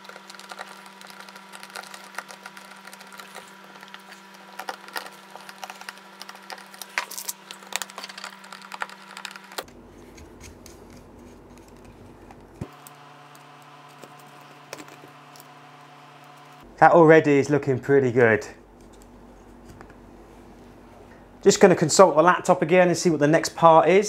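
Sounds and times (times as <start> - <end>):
background hum: 0.0 - 24.0.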